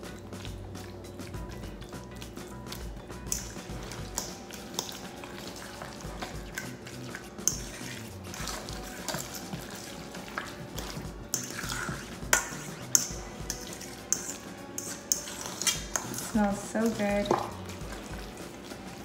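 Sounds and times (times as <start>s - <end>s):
fork clinking against metal bowl: 0.0s - 19.0s
fork mashing avocado: 0.0s - 19.0s.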